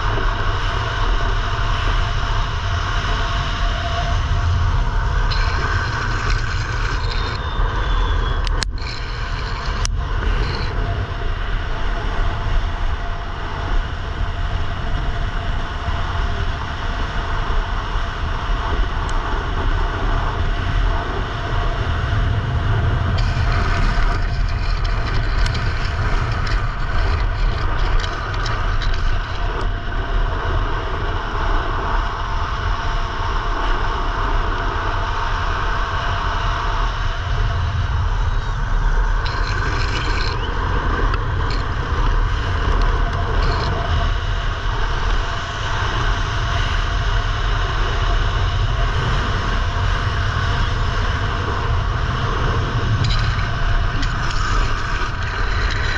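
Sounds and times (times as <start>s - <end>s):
skateboard wheels rolling on asphalt: 0.0s - 55.9s
wind buffeting camera: 0.0s - 55.9s.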